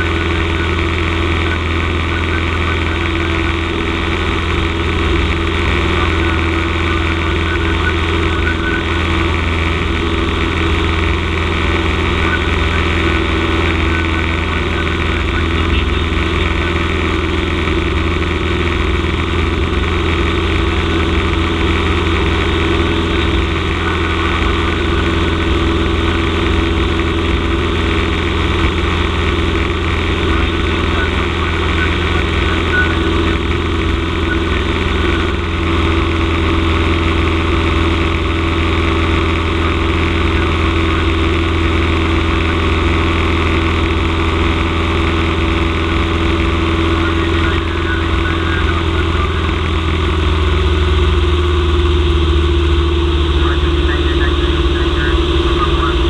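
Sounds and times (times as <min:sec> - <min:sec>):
airplane engine and propeller drone: 0:00.0 - 0:56.0.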